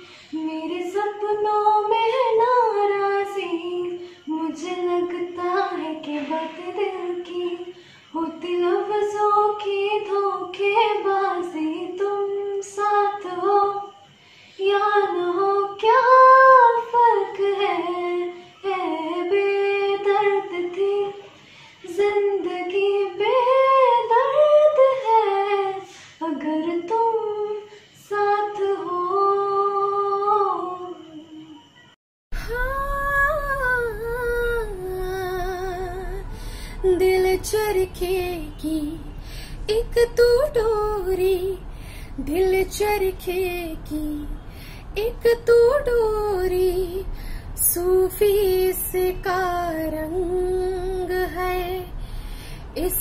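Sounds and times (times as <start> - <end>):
woman singing unaccompanied: 0.0 - 31.8, 32.4 - 52.0, 52.6 - 53.0
faint steady high tone: 0.0 - 53.0.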